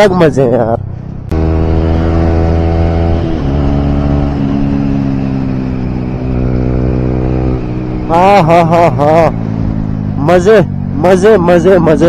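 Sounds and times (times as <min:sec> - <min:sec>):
motorcycle engine running: 0:00.8 - 0:12.0.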